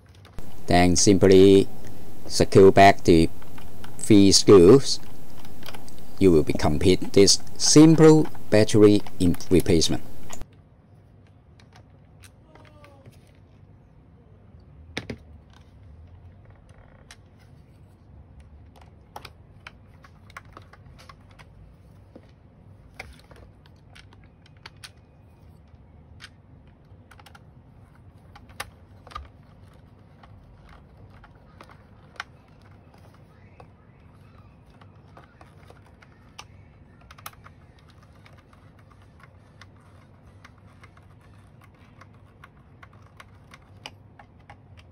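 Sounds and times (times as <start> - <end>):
faint low hum: 0.1 - 44.9.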